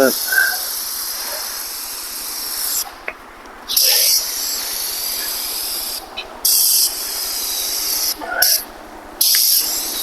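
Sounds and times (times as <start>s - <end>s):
aerosol can spraying hiss: 0.0s - 3.0s, 3.7s - 8.6s, 9.2s - 10.0s.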